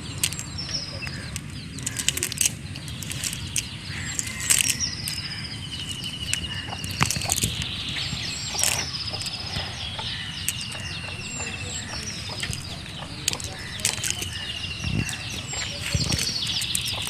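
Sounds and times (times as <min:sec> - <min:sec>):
crackles: 0:00.0 - 0:17.0.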